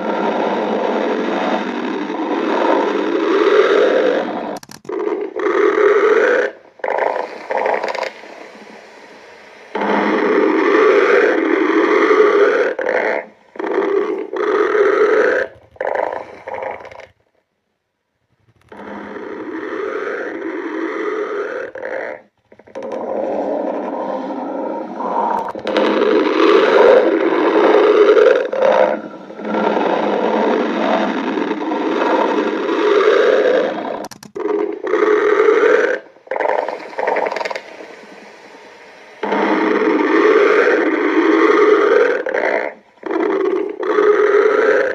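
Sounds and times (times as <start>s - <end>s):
stomach growling: 0.0s - 17.5s, 18.1s - 44.9s.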